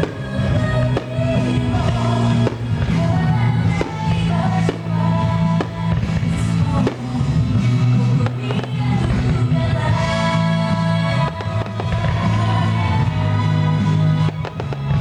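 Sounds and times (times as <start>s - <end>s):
fireworks bursting: 0.0s - 15.0s
loud music with singing and drums: 0.0s - 15.0s.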